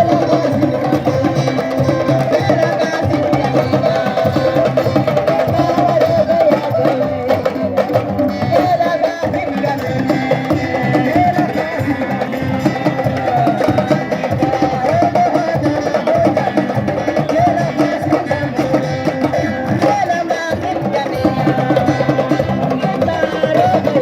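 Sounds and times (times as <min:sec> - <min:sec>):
wavering melody: 0:00.0 - 0:19.8
hand drum rhythm: 0:00.0 - 0:24.0.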